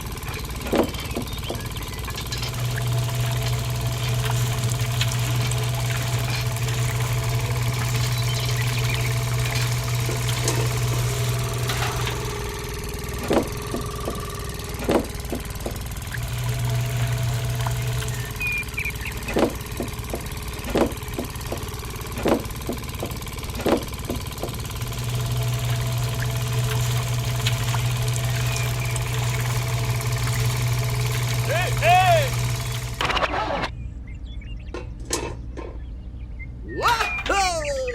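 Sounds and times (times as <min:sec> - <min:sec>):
small motor humming: 0:00.0 - 0:33.7.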